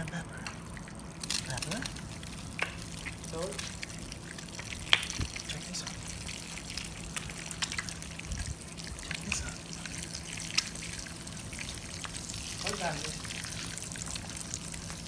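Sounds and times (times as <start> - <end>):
egg sizzling in frying pan: 1.1 - 15.0.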